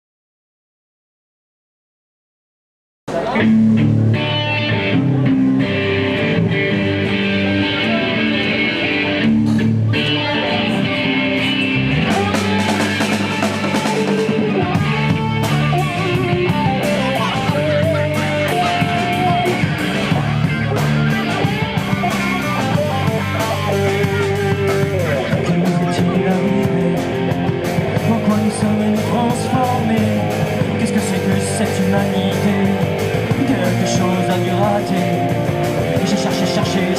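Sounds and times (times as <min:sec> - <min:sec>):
rock band playing: 0:03.1 - 0:36.9.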